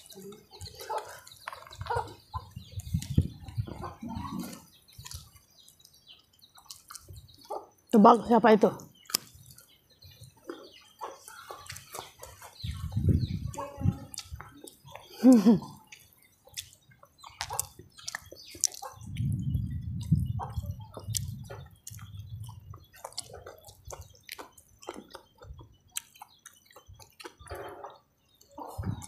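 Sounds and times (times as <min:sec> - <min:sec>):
close-miked chewing and lip smacks: 0:00.0 - 0:08.0, 0:08.9 - 0:29.0.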